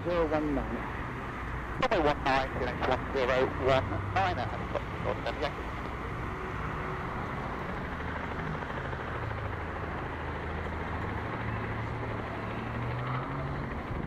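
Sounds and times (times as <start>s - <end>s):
helicopter engine and rotor hum: 0.0s - 14.0s.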